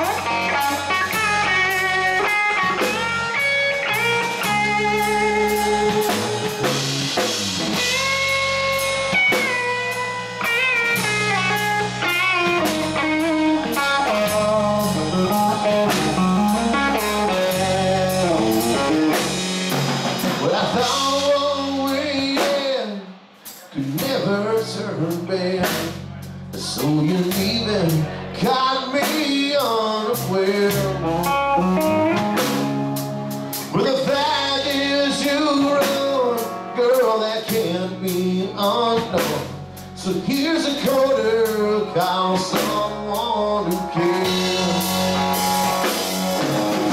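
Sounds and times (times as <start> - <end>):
electric guitar lead: 0.0 - 23.1, 30.0 - 46.9
bass guitar: 0.0 - 46.9
drum kit: 0.0 - 46.9.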